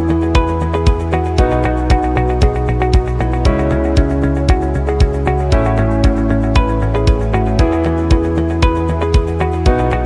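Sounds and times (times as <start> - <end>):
synth chords with steady beat: 0.0 - 10.0.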